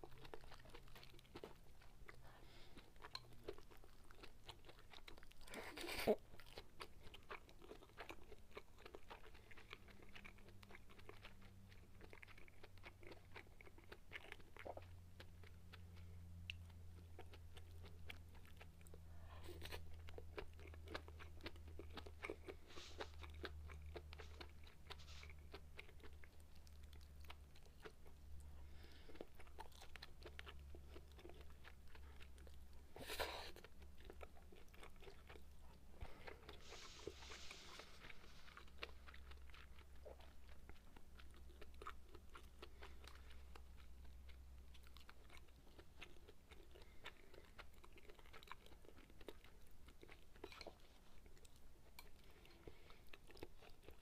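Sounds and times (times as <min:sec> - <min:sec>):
wet chewing sounds: 0:00.0 - 0:54.0.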